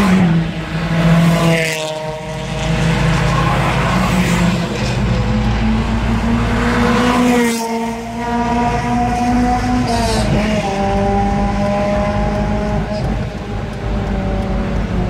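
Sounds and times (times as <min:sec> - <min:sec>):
car exhaust at high revs: 0:00.0 - 0:15.0.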